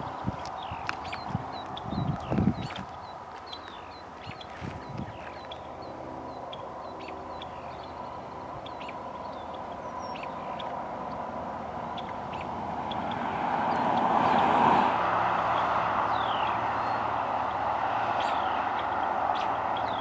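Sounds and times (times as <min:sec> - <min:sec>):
road vehicle approaching: 0:00.0 - 0:20.0
songbirds chirping: 0:00.0 - 0:20.0.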